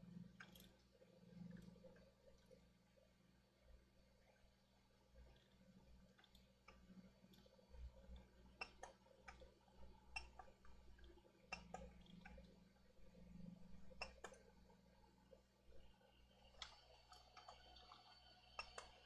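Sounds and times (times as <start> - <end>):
small parts and tools clicking: 0.2 - 2.6, 5.2 - 15.0, 15.7 - 19.0.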